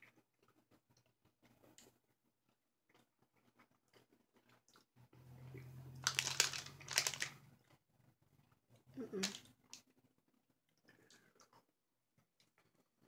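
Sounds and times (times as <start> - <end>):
crunching and chewing candy: 0.0 - 13.0.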